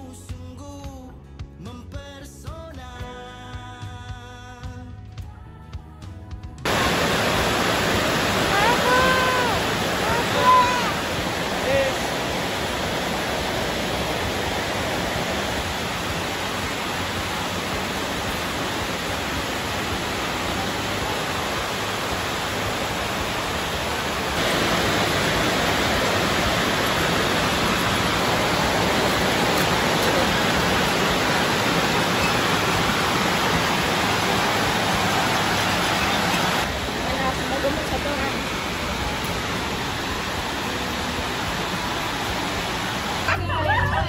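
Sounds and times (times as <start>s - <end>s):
steady rushing noise: 6.6s - 44.0s.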